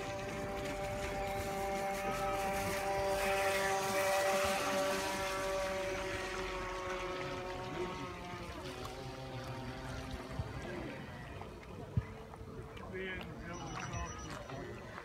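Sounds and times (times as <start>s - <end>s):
model boat motor whining: 0.0s - 15.0s.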